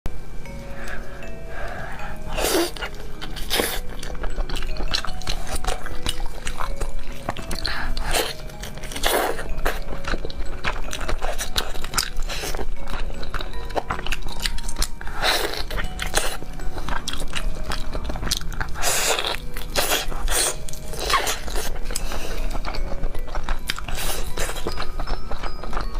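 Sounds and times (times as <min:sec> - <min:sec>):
person biting and chewing meat: 0:00.8 - 0:25.9.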